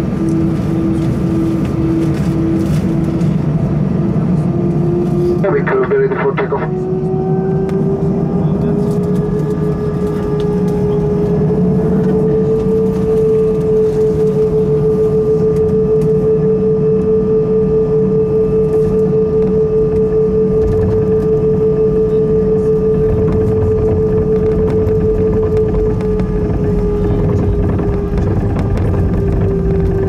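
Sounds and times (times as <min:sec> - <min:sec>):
jet engine whine: 0:00.0 - 0:30.0
low engine rumble: 0:00.0 - 0:30.0.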